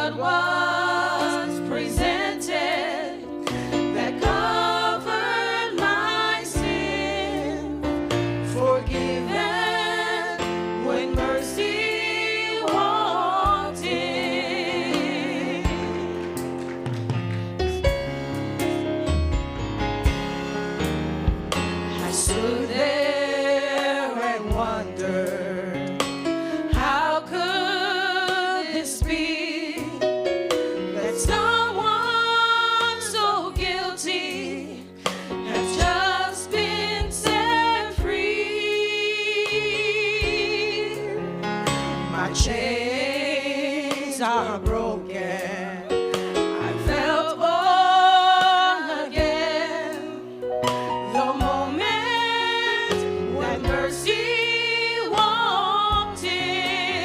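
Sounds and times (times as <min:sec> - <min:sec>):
gospel singing: 0:00.0 - 0:17.6, 0:21.6 - 0:57.0
keyboard accompaniment: 0:00.0 - 0:57.0.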